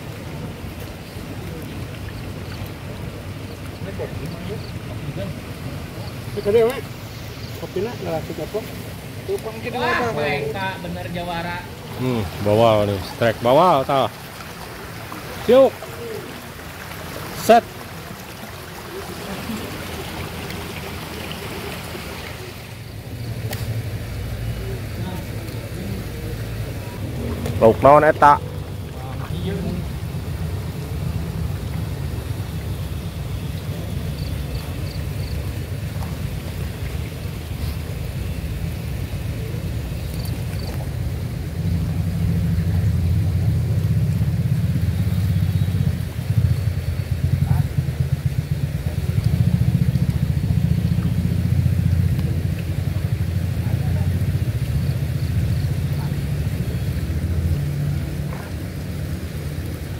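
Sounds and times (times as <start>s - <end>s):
low motor rumble: 0.0s - 59.9s
outdoor background hiss: 0.0s - 59.9s.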